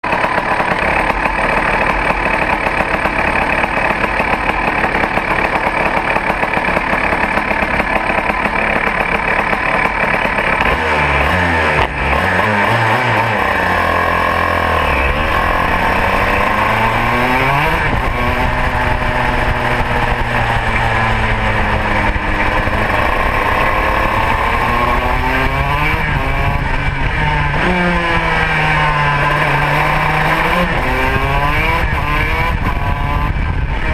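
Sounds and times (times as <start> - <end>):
kart engine revving: 0.0 - 33.9.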